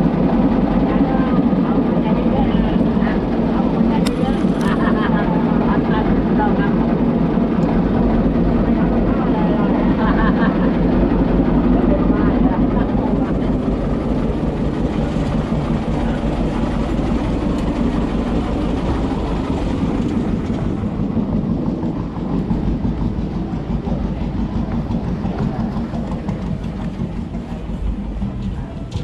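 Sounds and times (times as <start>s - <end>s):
boat engine rumbling: 0.0s - 29.0s.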